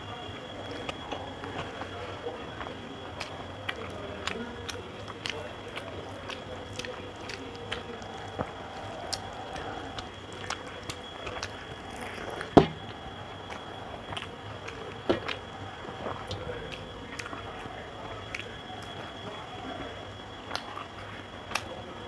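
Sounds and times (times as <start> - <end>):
wet chewing: 0.1 - 22.0
fingers mashing rice on steel plate: 0.8 - 19.5.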